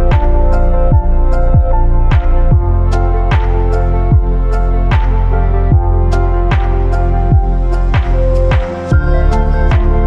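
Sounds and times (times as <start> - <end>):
deep kick drum: 0.0 - 10.0
held synth chords: 0.0 - 10.0.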